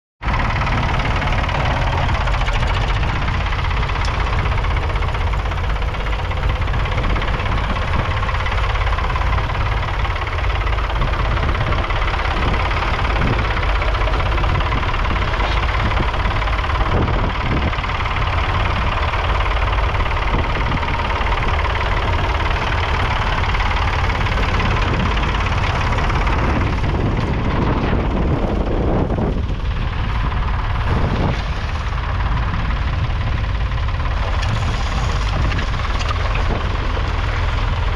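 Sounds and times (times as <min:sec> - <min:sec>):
diesel tractor engine running: 0:00.2 - 0:37.9.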